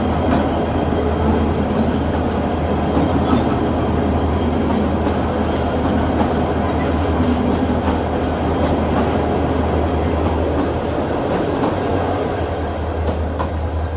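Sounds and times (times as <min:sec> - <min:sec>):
train rumbling: 0:00.0 - 0:13.9.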